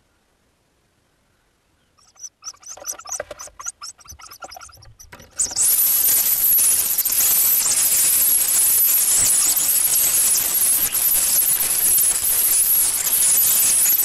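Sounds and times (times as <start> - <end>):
nestlings chirping: 2.0 - 14.0.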